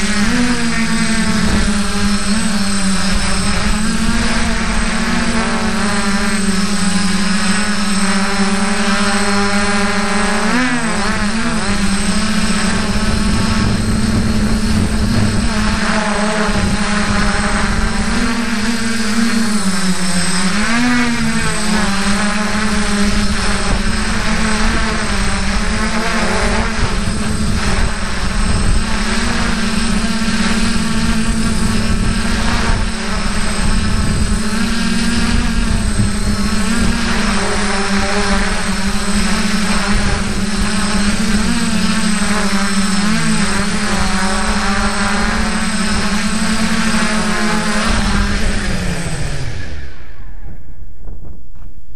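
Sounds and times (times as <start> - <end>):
quadcopter motors humming: 0.0 - 51.9.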